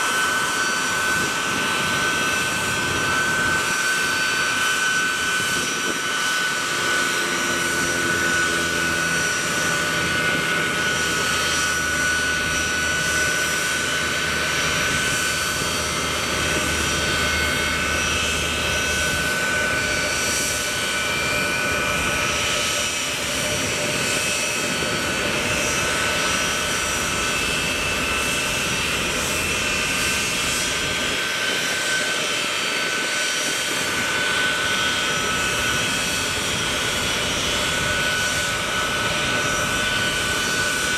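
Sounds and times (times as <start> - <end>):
jet engines whining: 0.0 - 40.9.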